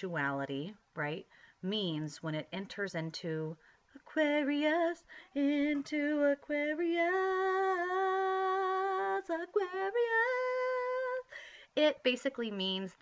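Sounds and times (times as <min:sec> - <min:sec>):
woman singing a cappella: 0:00.0 - 0:13.0.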